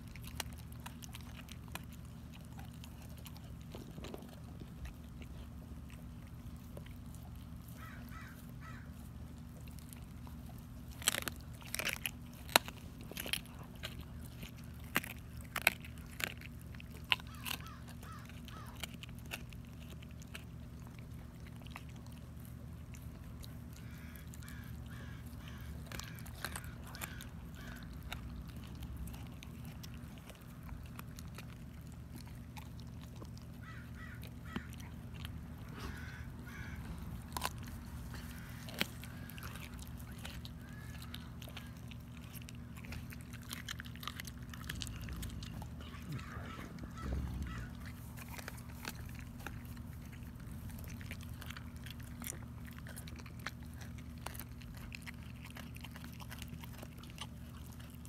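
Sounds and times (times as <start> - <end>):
dog licking and gnawing meat: 0.0 - 58.0
teeth clicking on bone: 0.0 - 58.0.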